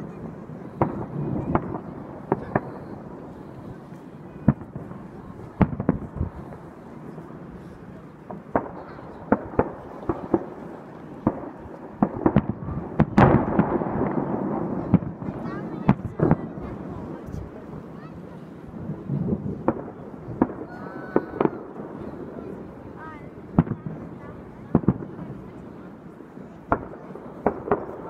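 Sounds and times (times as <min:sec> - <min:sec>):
fireworks bangs: 0:00.0 - 0:28.0
fireworks crackling: 0:00.0 - 0:28.0.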